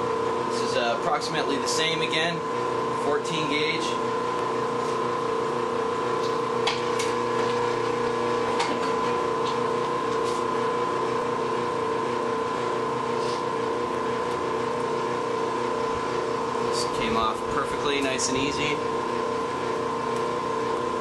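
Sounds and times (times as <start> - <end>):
wire stripping machine running: 0.0 - 21.0.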